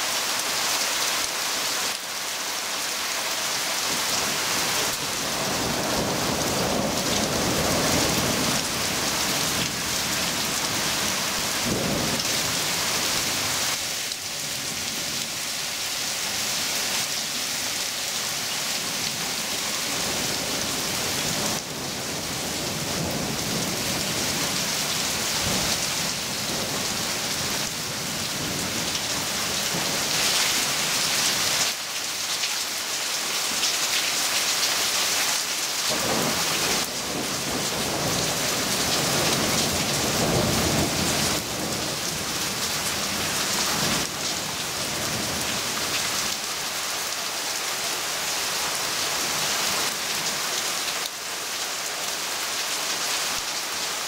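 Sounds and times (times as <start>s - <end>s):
heavy rain on leaves: 0.0s - 54.0s.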